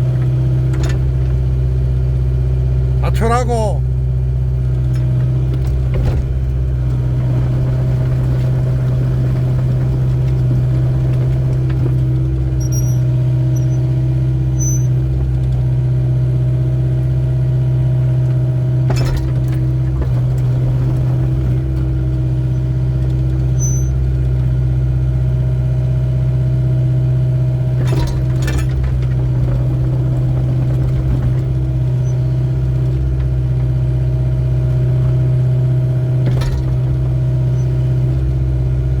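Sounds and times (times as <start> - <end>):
excavator diesel engine running: 0.0 - 26.0, 27.7 - 39.0.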